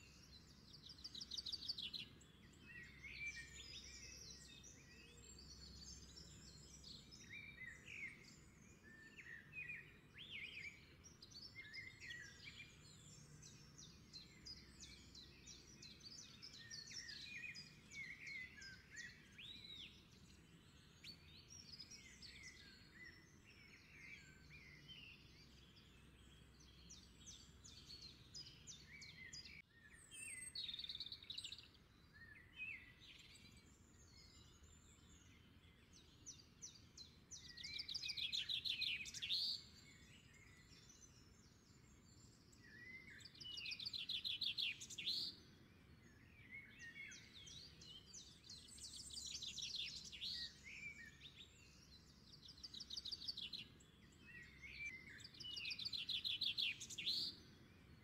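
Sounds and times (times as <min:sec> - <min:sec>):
faint birds chirping: 0:00.0 - 0:58.0.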